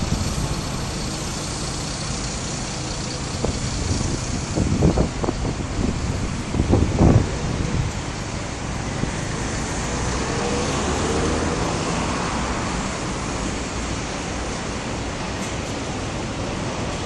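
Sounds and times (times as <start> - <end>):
road traffic noise: 0.0 - 17.0
vehicle engine hum: 0.0 - 17.0.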